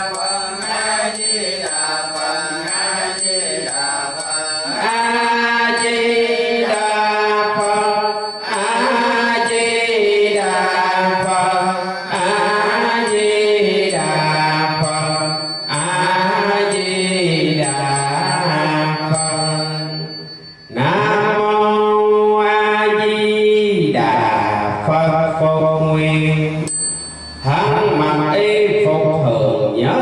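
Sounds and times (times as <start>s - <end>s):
melodic chanting: 0.0s - 30.0s.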